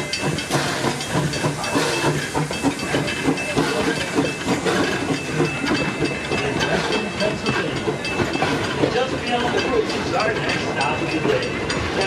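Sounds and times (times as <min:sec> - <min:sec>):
steam locomotive hissing: 0:00.0 - 0:12.0
train clattering on rails: 0:00.0 - 0:12.0.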